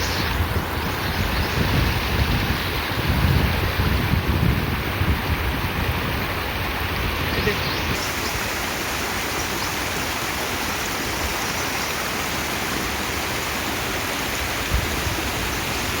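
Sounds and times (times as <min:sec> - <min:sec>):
water rushing over stones: 0:00.0 - 0:16.0.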